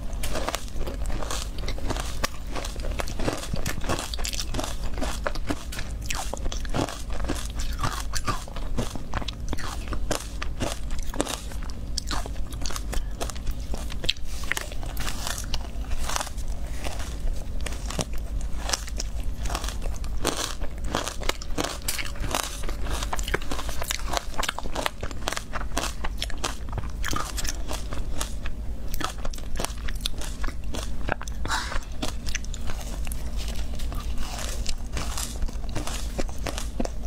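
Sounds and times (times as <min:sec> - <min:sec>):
crunching and chewing ice: 0:00.0 - 0:37.0
steady low hum: 0:00.0 - 0:37.0.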